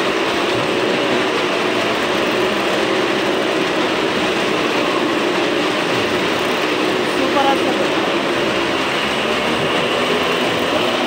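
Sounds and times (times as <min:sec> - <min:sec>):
engines droning: 0:00.0 - 0:11.0.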